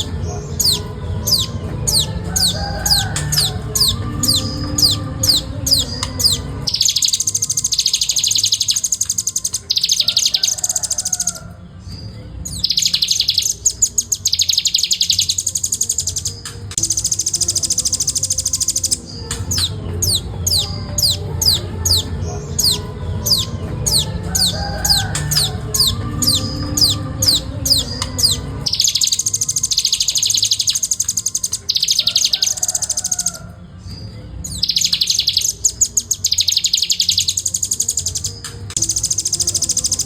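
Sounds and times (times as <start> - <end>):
fast high bird trill: 0.0 - 11.5, 12.5 - 33.5, 34.5 - 40.0
bird calling with sharp high notes: 0.0 - 33.5, 34.4 - 40.0.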